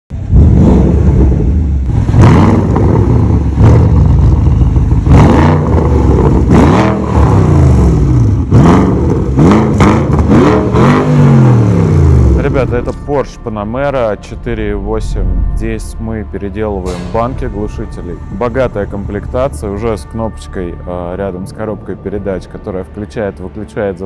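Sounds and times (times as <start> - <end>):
car engine revving: 0.1 - 20.2.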